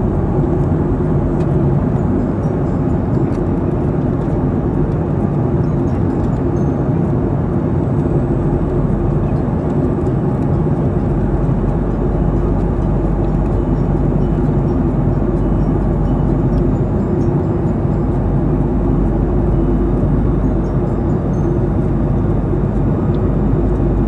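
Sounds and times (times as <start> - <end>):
airliner cabin engine and airflow noise: 0.0 - 24.0
faint steady hum tones: 0.0 - 24.0.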